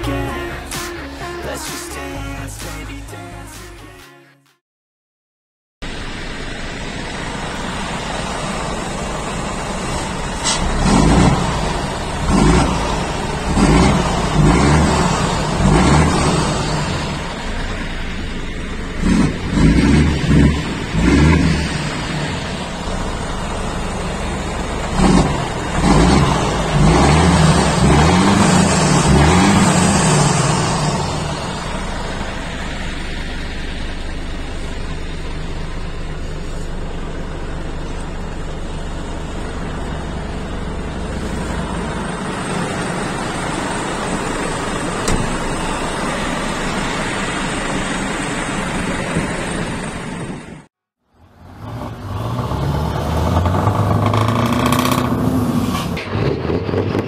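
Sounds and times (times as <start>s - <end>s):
diesel truck engine revving: 5.9s - 57.0s.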